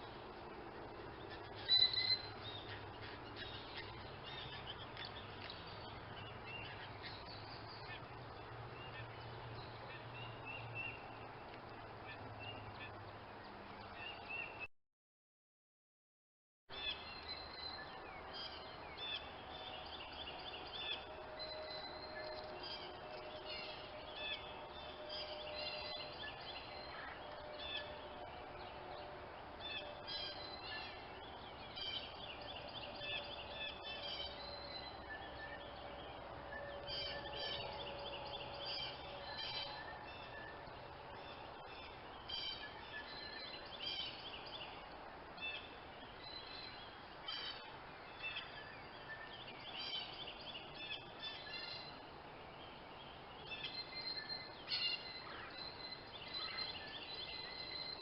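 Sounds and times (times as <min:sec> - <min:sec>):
faint steady background noise: 0:00.0 - 0:14.7, 0:16.7 - 0:58.0
small birds chirping: 0:00.0 - 0:14.7, 0:16.7 - 0:58.0.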